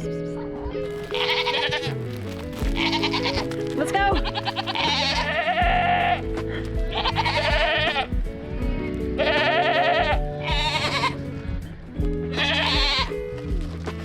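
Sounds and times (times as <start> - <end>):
background music with sustained chords: 0.0 - 14.0
goats bleating: 0.9 - 11.3, 12.3 - 13.2.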